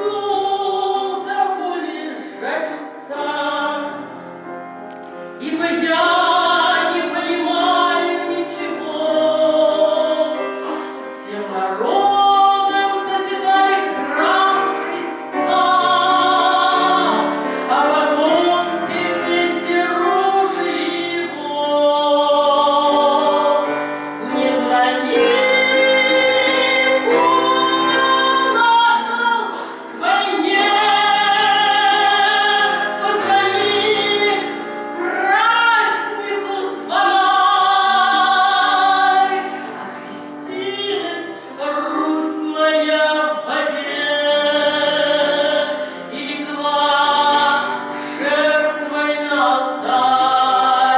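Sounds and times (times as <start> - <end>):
woman singing: 0.0 - 4.3, 5.4 - 50.9.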